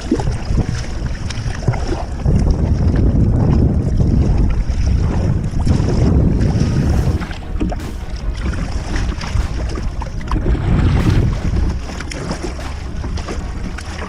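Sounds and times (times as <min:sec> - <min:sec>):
water lapping at hull: 0:00.0 - 0:14.0
wind buffeting microphone: 0:00.0 - 0:14.0.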